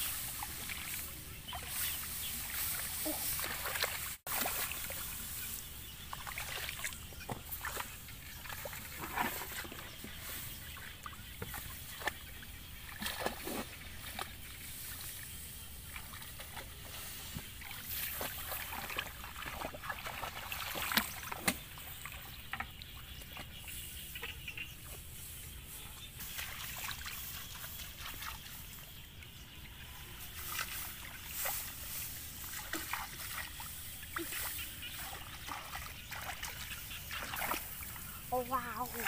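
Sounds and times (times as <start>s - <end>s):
trickling water: 0.0s - 25.2s, 25.9s - 39.0s
splashes of wading: 0.0s - 29.2s, 29.8s - 39.0s.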